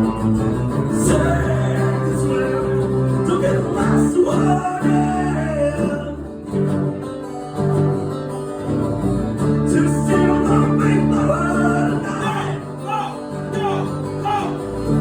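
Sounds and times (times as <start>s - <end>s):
acoustic guitar sustained chords: 0.0s - 15.0s.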